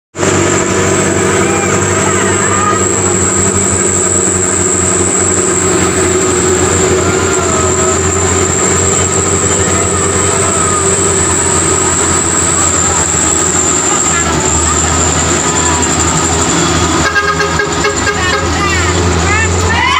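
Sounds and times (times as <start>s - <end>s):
diesel truck engine rumbling: 0.1s - 19.9s
high-pitched whine: 0.2s - 19.9s.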